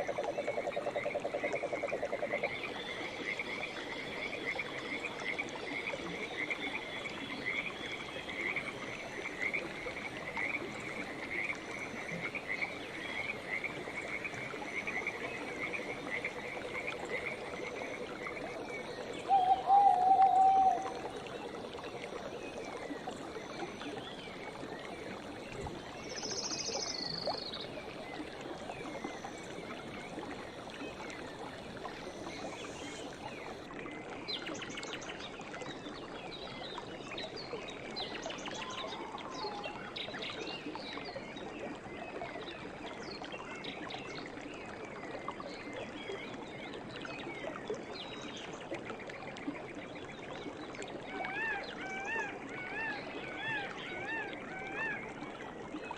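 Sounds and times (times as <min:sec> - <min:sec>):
flowing stream water: 0:00.0 - 0:55.9.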